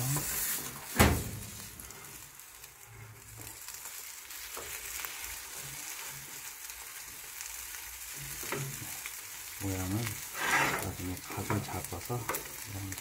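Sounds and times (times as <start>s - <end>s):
egg sizzling in pan: 0.0s - 13.0s.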